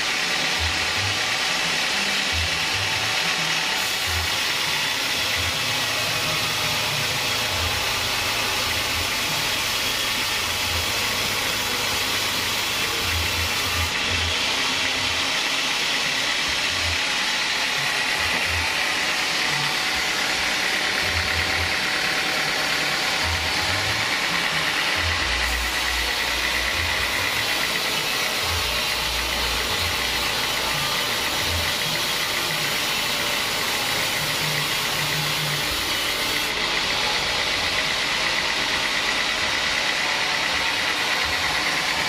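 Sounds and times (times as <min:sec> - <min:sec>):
band sawmill sawing log: 0:00.0 - 0:42.0.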